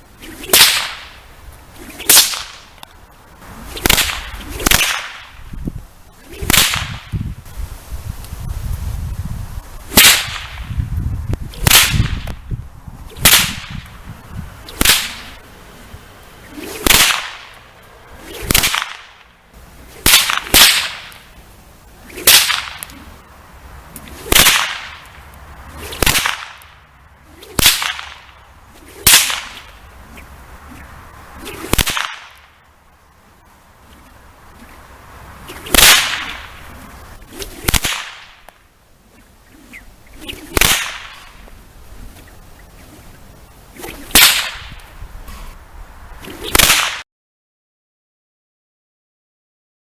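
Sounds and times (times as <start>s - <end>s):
whip swishing and cracking: 0.1s - 7.6s, 9.8s - 15.4s, 16.4s - 23.3s, 23.9s - 32.7s, 33.8s - 34.8s, 35.4s - 45.6s, 46.2s - 47.1s.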